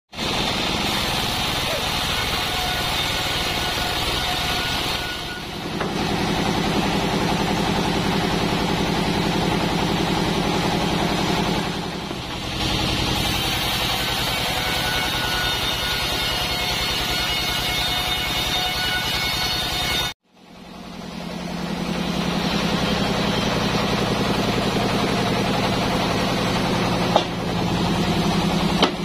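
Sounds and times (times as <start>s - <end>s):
band saw machinery humming: 0.2s - 29.0s.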